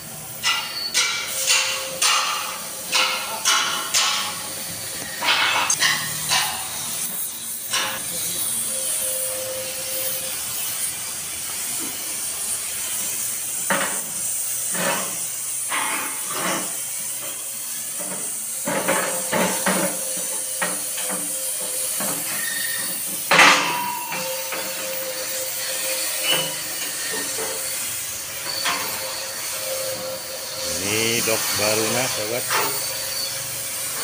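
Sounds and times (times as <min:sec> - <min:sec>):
torch hissing: 0:00.0 - 0:34.0.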